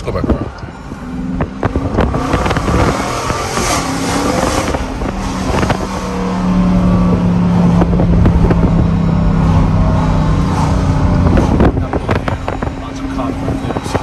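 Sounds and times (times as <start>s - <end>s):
loud exhaust of driving car: 0.0s - 14.0s.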